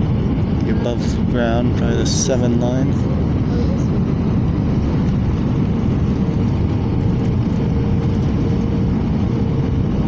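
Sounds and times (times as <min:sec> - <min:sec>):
jet engine and airflow rumble: 0:00.0 - 0:10.0.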